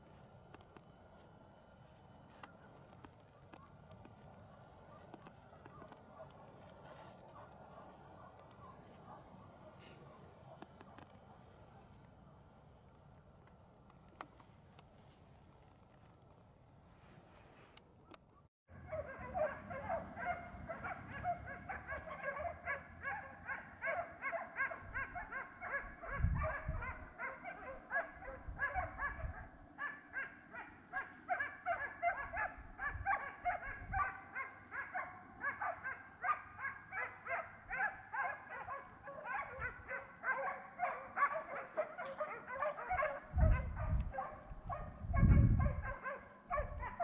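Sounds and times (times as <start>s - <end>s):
dogs baying and yelping: 2.3s - 12.0s, 18.3s - 47.0s.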